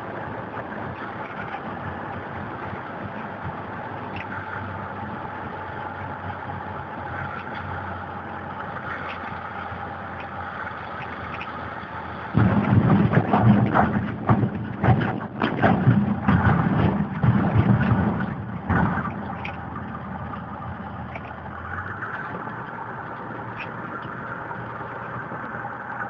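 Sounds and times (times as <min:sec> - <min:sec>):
vehicle engine driving fast: 0:00.0 - 0:26.0.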